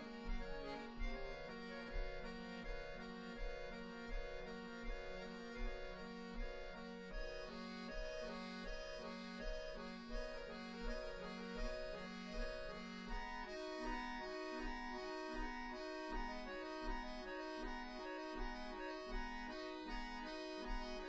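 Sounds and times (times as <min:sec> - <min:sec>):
accordions playing chords: 0:00.0 - 0:21.0.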